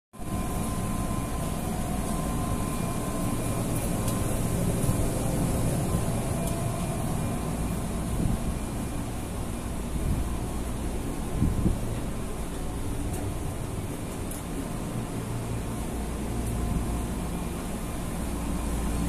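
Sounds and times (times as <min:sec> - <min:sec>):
train car hum and rumble: 0:00.1 - 0:19.0
faint steady whine: 0:00.2 - 0:19.0.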